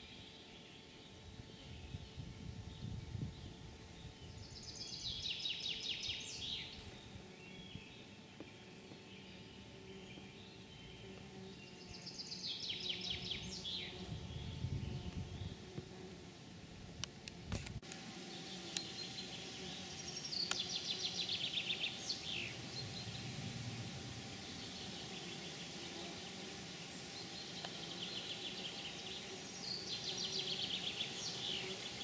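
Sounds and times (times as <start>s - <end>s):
songbird trilling song: 0.0s - 15.7s, 18.3s - 23.4s, 27.1s - 32.0s.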